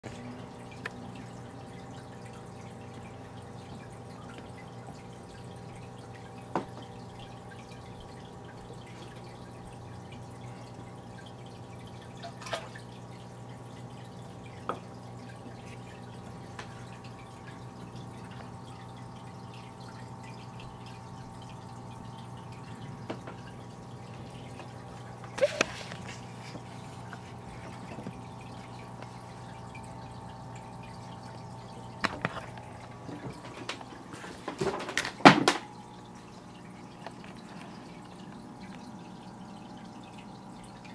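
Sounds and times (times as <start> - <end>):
aquarium water trickling: 0.0 - 40.9
tank equipment humming: 0.0 - 40.9
bubbles rising in water: 0.1 - 40.9.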